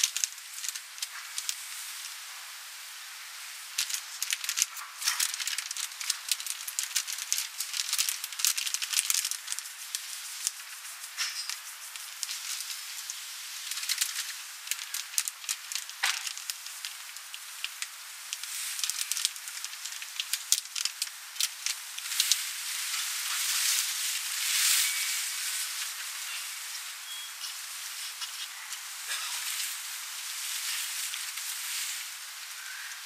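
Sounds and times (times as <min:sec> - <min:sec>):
dense crackling and rustling: 0:00.0 - 0:33.0.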